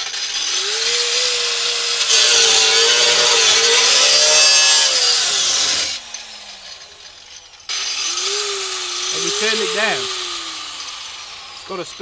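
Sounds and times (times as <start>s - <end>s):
harsh hissing metal cutting: 0.0s - 12.0s
power tool motor whine: 0.0s - 12.0s.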